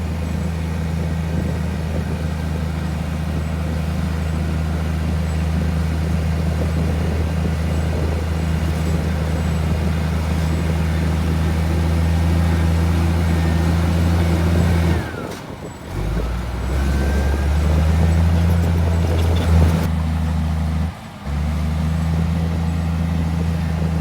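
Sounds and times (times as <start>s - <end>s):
heavy diesel engine humming: 0.0s - 24.0s.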